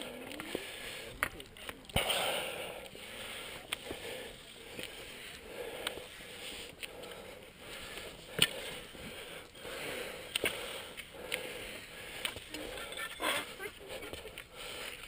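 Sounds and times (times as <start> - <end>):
heavy hard breathing: 0.0 - 15.0.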